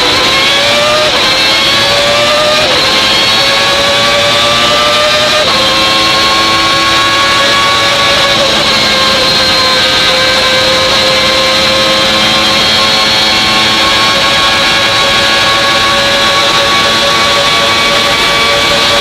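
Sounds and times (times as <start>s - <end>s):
racing car engine at high revs: 0.0s - 19.0s.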